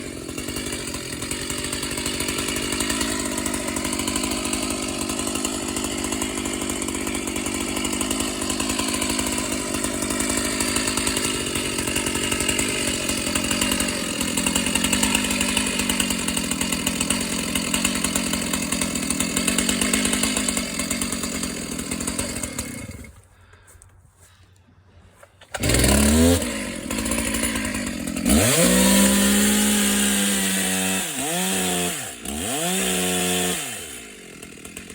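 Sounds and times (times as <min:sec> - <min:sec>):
chainsaw running and revving: 0:00.0 - 0:23.2, 0:25.5 - 0:34.9.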